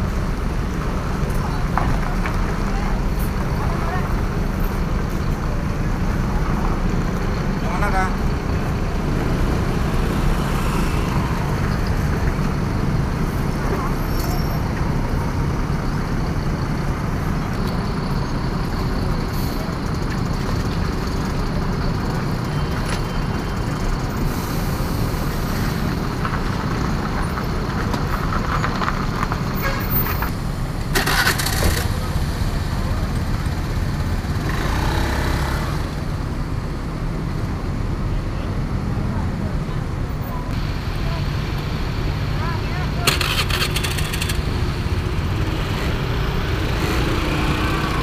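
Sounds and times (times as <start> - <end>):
bus diesel engine rumbling: 0.0 - 48.0.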